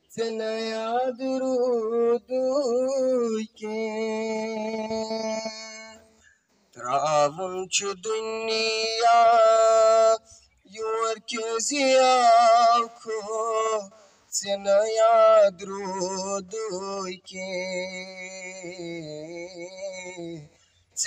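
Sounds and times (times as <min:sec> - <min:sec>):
man singing into microphone: 0:00.0 - 0:06.2, 0:06.8 - 0:21.0.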